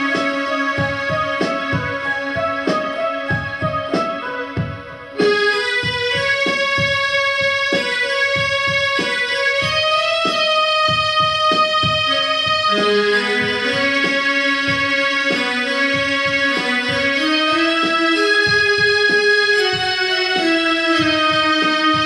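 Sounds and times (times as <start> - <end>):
electronic keyboard melody: 0.0 - 22.0
steady beat: 0.0 - 22.0.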